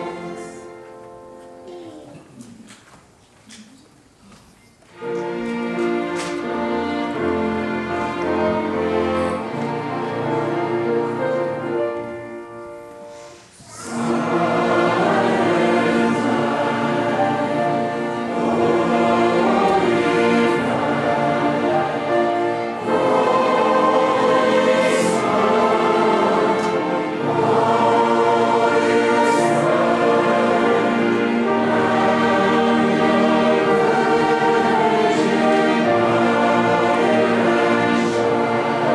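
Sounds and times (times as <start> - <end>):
choir singing held chords: 0.0 - 1.4, 6.0 - 38.9.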